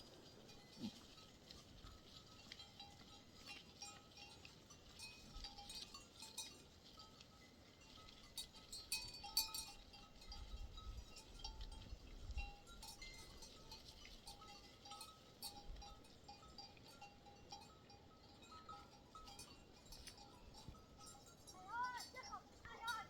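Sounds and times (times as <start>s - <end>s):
livestock bells clinking: 0.0s - 23.0s.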